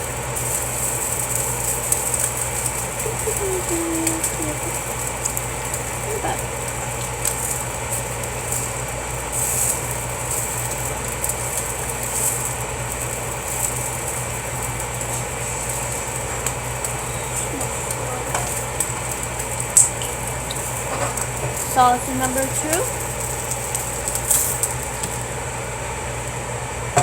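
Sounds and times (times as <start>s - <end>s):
sausages sizzling in a frying pan: 0.0s - 27.0s
steady low hum: 0.0s - 27.0s.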